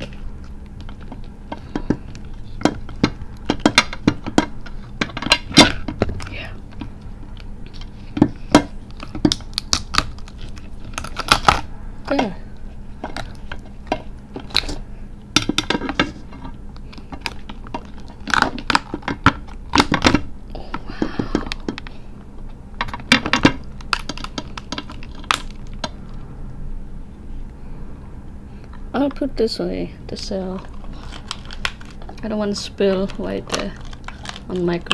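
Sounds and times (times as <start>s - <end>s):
crab shell cracking: 0.0s - 12.2s, 13.0s - 21.9s, 22.8s - 26.1s, 30.6s - 32.3s, 32.9s - 34.9s.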